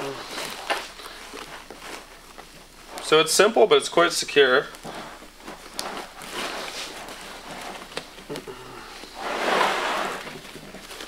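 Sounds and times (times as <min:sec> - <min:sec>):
nylon fabric rustling: 0:00.0 - 0:08.4, 0:09.0 - 0:11.0.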